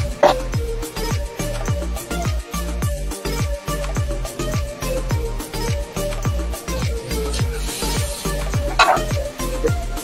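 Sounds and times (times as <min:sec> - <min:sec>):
music with deep kick drum: 0:00.0 - 0:10.0.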